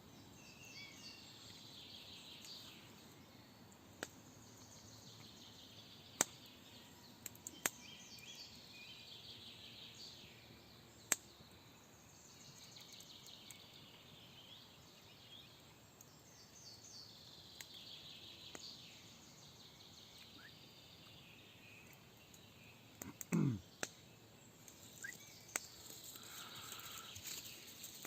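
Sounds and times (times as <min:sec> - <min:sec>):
faint songbirds singing: 0:00.0 - 0:28.0.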